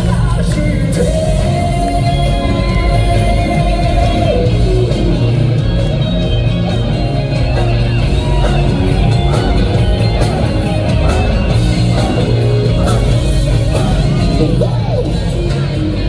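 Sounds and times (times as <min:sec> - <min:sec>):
bass: 0:00.0 - 0:16.0
drums: 0:00.0 - 0:16.0
electric guitar: 0:00.0 - 0:16.0.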